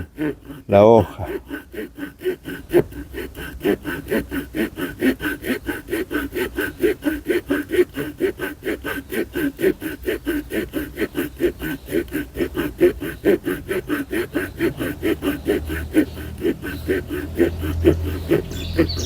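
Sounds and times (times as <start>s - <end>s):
saw rasping through wood: 0.0s - 19.0s.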